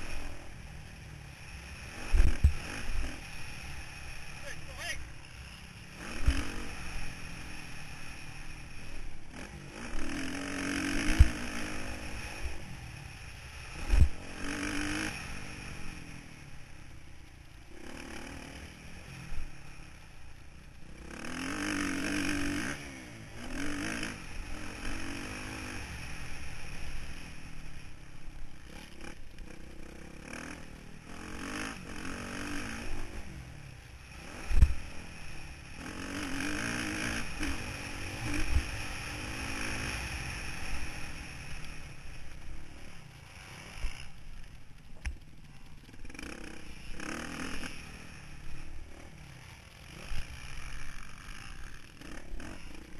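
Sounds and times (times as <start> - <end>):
motorbike engine revving: 0.0 - 16.8, 17.5 - 52.9
wind and dirt noise: 0.0 - 52.9.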